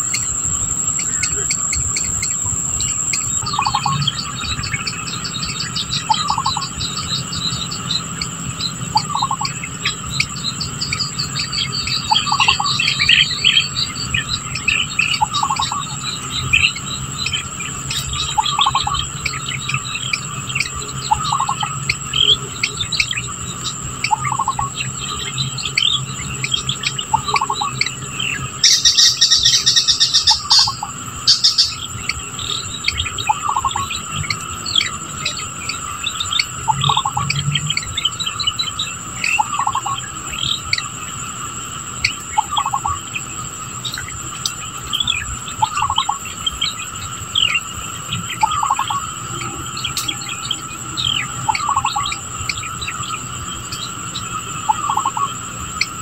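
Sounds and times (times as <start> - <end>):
bird chirps: 0.0 - 56.0
high-pitched insect drone: 0.0 - 56.0.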